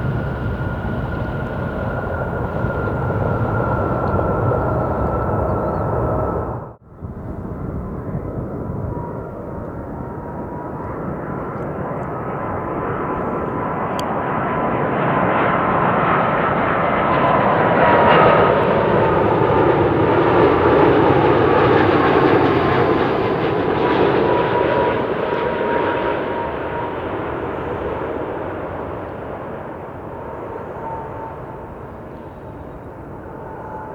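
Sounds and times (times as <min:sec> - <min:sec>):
jet airliner engine whine: 0:00.0 - 0:33.9.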